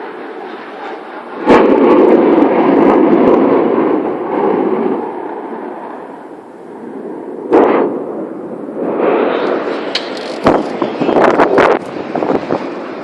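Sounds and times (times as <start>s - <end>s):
jet passing overhead: 0.0s - 13.0s
loud crackling burst: 0.0s - 13.0s.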